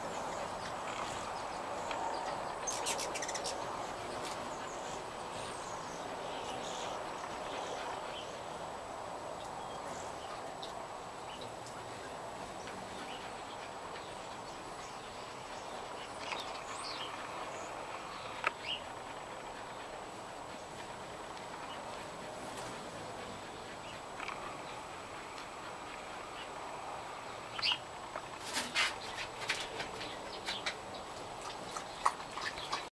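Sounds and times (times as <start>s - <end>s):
outdoor background hum: 0.0s - 32.9s
small birds chirping: 0.0s - 32.9s.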